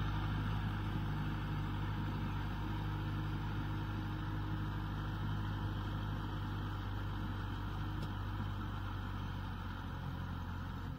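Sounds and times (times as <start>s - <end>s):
tractor diesel engine under load: 0.0s - 10.9s.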